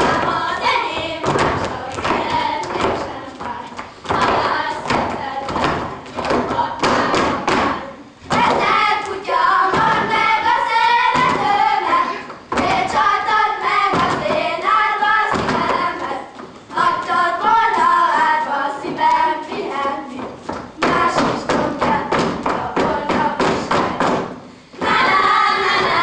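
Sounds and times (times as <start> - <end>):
dance steps thudding on stage: 0.0 - 26.0
girls singing together: 0.0 - 26.0.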